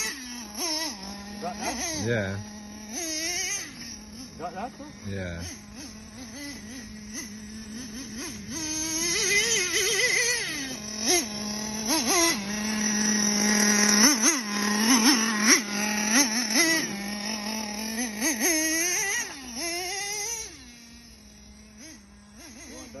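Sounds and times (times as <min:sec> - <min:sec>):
model engine throttle blips: 0:00.0 - 0:23.0.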